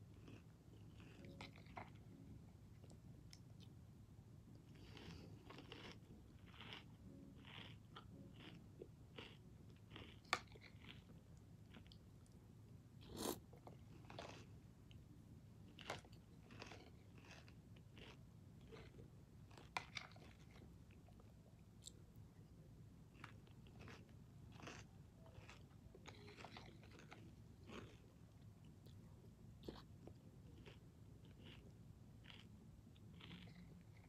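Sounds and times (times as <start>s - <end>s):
chewing crunchy cereal: 0.0s - 3.8s, 4.5s - 12.4s, 13.0s - 15.0s, 15.6s - 22.1s, 23.1s - 34.0s.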